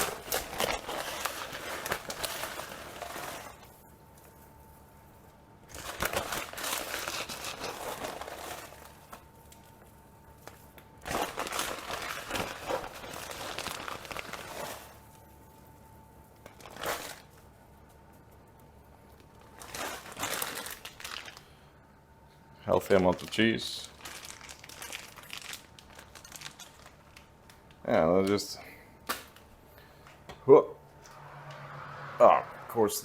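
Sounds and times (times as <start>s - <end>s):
plastic packaging crinkling: 0.0s - 18.2s, 19.0s - 21.6s, 22.7s - 28.4s.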